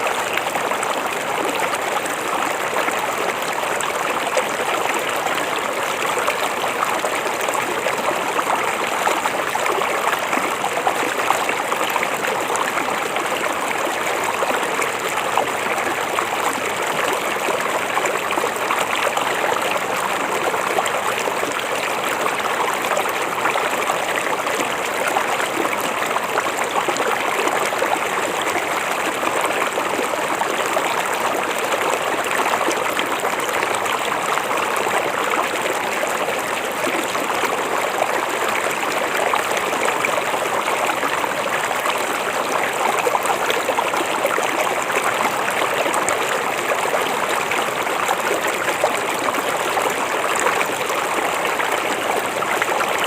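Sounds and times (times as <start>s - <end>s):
river flowing over rocks: 0.0s - 53.0s
water splashes and trickles: 0.0s - 53.0s.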